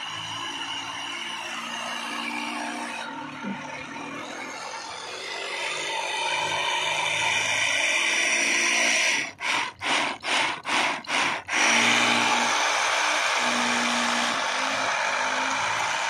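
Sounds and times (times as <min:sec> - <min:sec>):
miniature mill whirring and grinding: 0:00.0 - 0:16.0.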